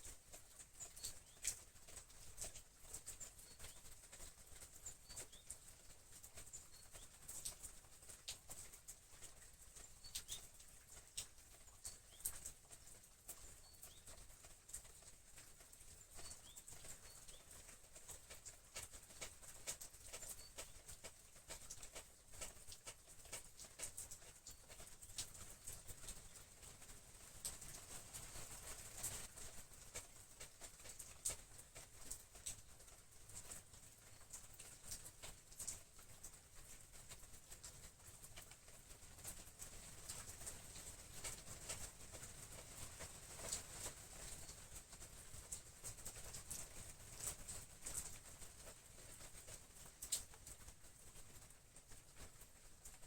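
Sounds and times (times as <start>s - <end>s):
faint steady hiss: 0.0s - 53.0s
soft clicks of flower stems: 0.0s - 53.0s.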